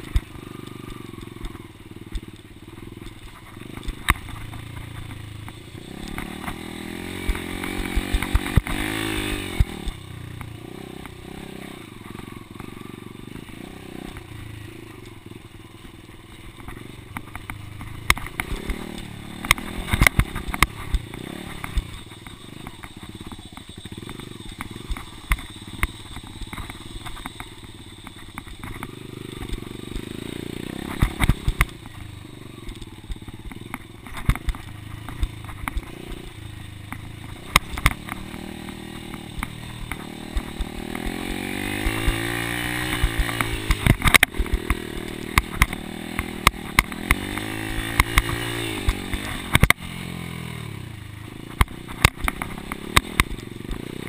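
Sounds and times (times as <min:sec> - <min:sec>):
sharp clicks and knocks: 0:00.0 - 0:11.2, 0:16.3 - 0:30.1, 0:30.8 - 0:50.1, 0:51.4 - 0:54.0
dirt bike engine revving: 0:00.0 - 0:54.0.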